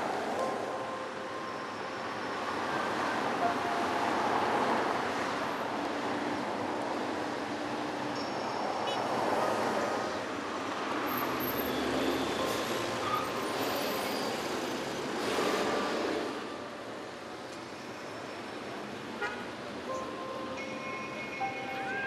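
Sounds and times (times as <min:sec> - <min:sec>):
bus passing close: 0:00.0 - 0:18.7
steady traffic noise: 0:00.0 - 0:22.0.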